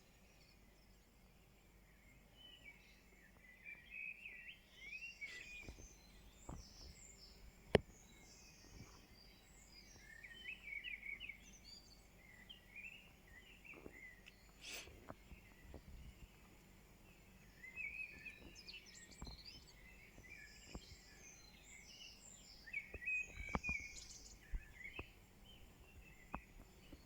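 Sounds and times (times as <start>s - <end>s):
songbirds singing faintly: 0.0s - 27.0s.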